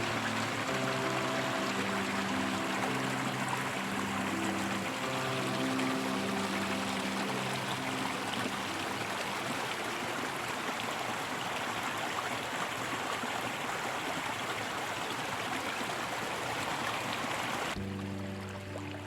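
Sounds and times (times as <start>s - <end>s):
stream of running water: 0.0s - 19.0s.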